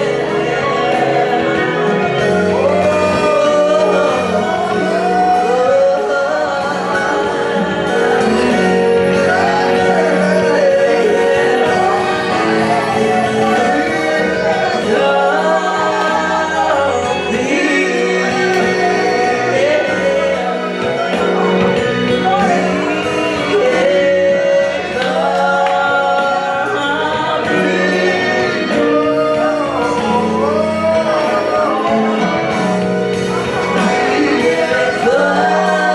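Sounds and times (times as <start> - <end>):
gospel singing with instruments: 0.0 - 35.9.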